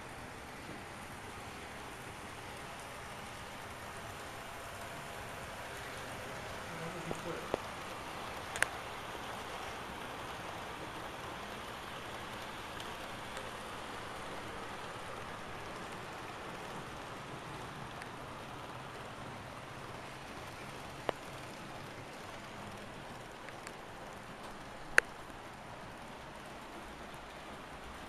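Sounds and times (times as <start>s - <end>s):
model train wheels whirring on track: 0.0s - 28.0s.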